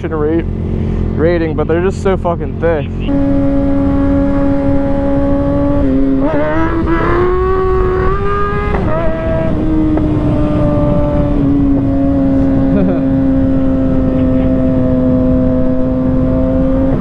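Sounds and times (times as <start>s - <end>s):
motorcycle engine revving: 0.0s - 17.0s
wind rumble on microphone: 2.6s - 17.0s.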